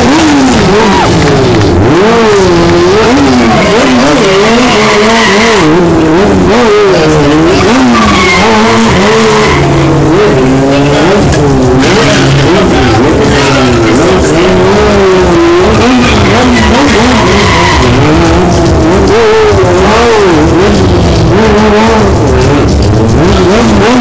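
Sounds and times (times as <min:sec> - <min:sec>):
motorcycle engine revving: 0:00.0 - 0:24.0
tyres skidding on pavement: 0:00.0 - 0:24.0.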